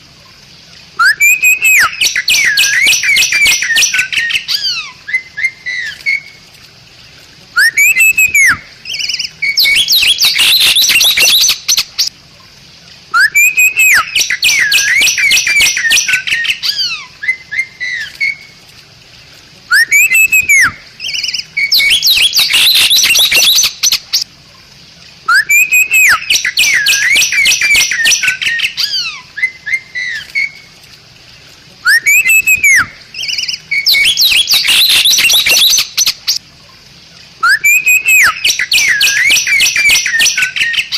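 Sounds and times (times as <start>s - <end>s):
bird whistling and chattering: 1.0s - 6.3s, 7.6s - 12.1s, 13.1s - 18.4s, 19.7s - 24.2s, 25.3s - 30.6s, 31.8s - 36.4s, 37.4s - 40.9s.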